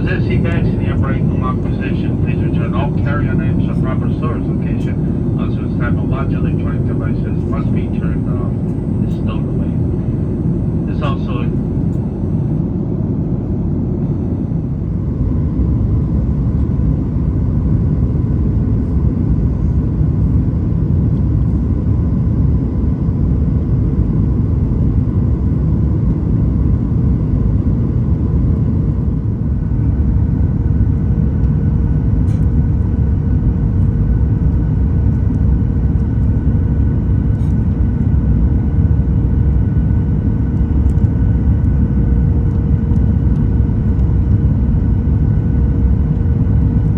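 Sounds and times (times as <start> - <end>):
steady hum: 0.0 - 23.8, 26.6 - 46.9
airplane cabin rumble: 0.0 - 46.9.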